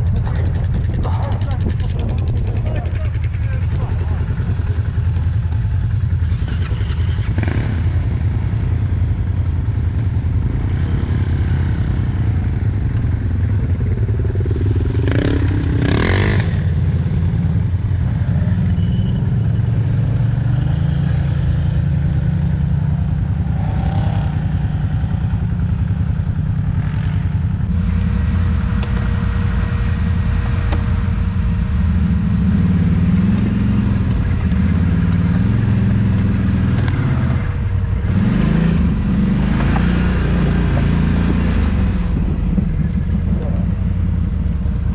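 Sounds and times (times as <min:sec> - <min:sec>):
off-road vehicle engine: 0:00.0 - 0:44.9.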